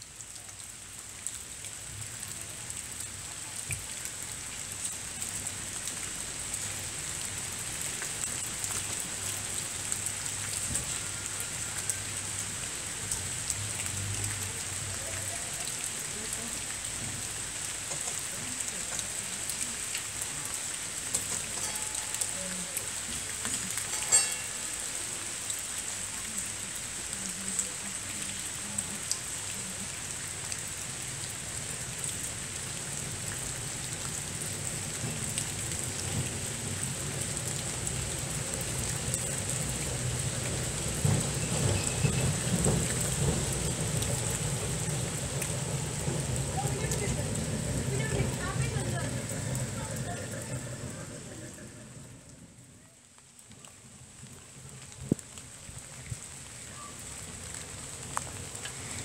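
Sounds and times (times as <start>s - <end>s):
rain on cobbles: 0.0s - 59.0s.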